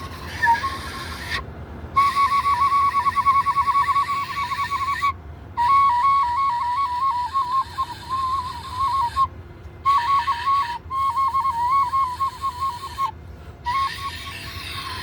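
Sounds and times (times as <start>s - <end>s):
flute playing ornamented melody: 0.0s - 1.4s, 2.0s - 15.0s.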